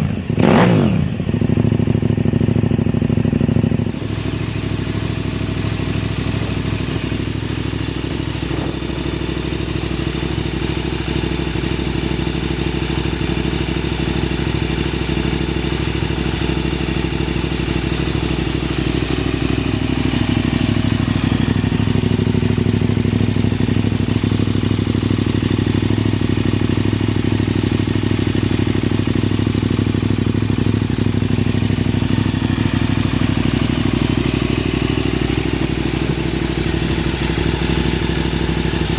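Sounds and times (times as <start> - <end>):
motorcycle engine running at low revs: 0.0 - 38.9.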